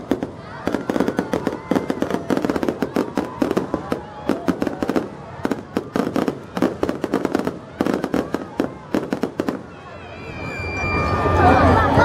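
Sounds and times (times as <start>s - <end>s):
fireworks crackling and popping: 0.0s - 9.8s
loud fireworks reports: 0.0s - 12.0s.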